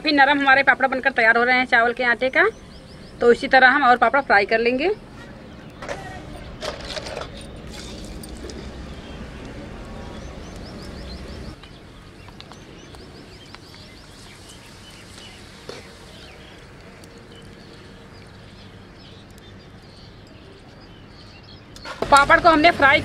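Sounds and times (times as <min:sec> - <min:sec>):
bird chirping: 0:01.0 - 0:22.0.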